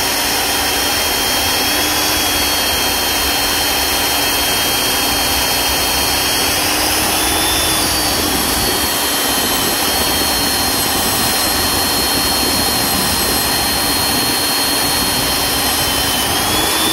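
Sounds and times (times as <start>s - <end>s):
drill motor whining: 0.0s - 16.9s.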